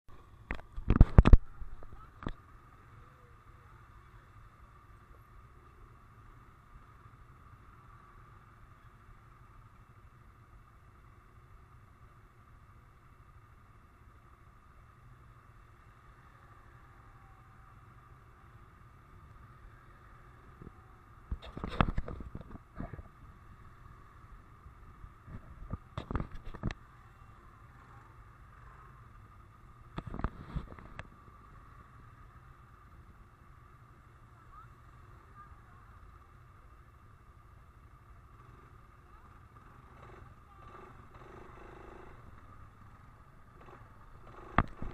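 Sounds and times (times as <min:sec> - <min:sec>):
quad bike engines idling: 0:00.1 - 0:44.9.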